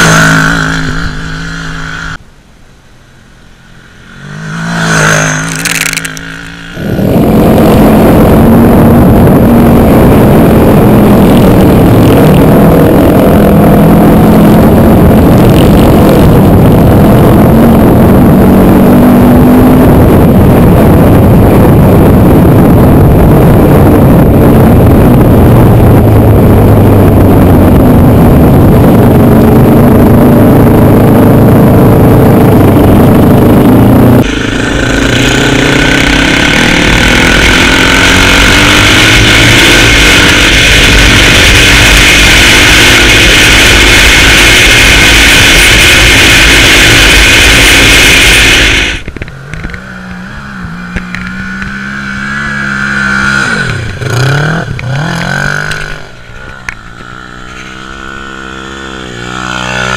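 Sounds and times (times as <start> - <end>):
quad bike engine revving: 0.0 - 2.2, 3.7 - 59.9
wind rush: 3.9 - 57.4.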